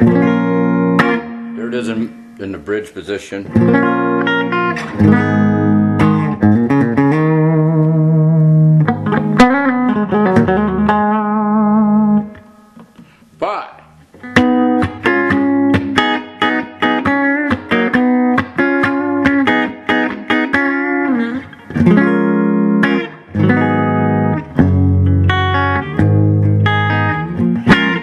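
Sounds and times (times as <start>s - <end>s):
electric guitar playing: 0.0s - 28.0s.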